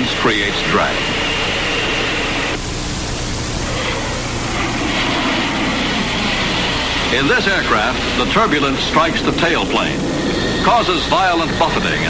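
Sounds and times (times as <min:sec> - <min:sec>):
low hum: 0:00.0 - 0:12.0
steady rushing noise: 0:00.0 - 0:12.0.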